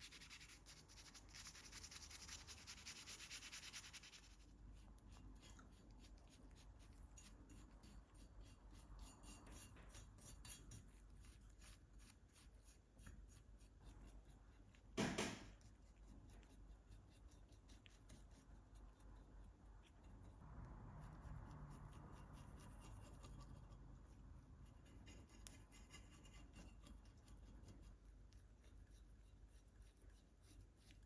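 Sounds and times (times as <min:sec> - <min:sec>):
faint scraping and rubbing: 0:00.0 - 0:14.5, 0:15.5 - 0:31.0.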